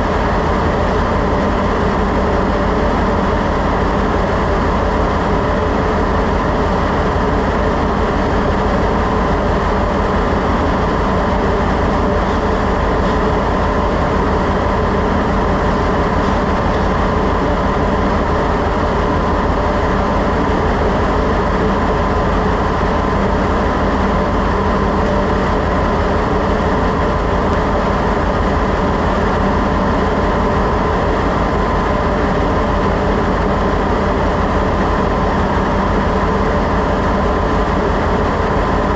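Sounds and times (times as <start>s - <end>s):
engine-room machinery drone: 0.0s - 38.9s.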